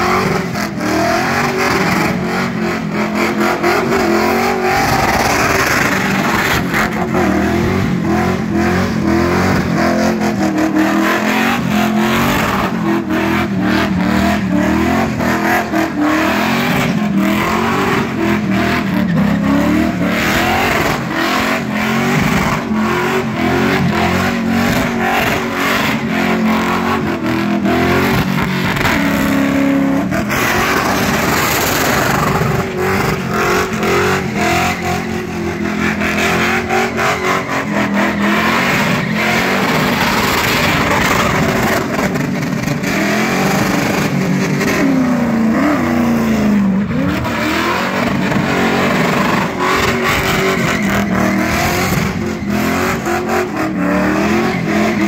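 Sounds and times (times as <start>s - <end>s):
car engine revving high: 0.0s - 55.0s
tyres screeching on pavement: 3.8s - 44.4s, 46.9s - 55.0s.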